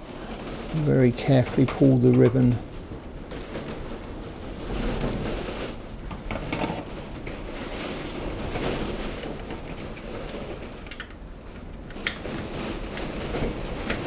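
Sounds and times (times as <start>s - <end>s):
plastic parts rustling and scraping: 0.0s - 14.0s.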